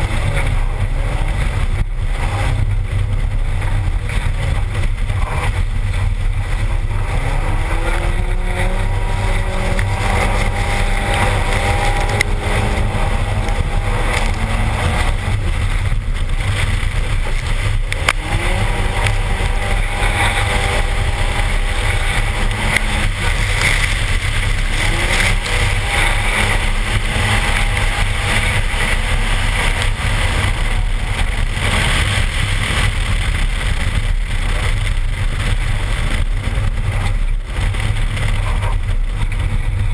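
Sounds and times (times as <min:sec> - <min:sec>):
car engine accelerating hard: 0:00.0 - 0:39.9
wind buffeting microphone: 0:00.0 - 0:39.9.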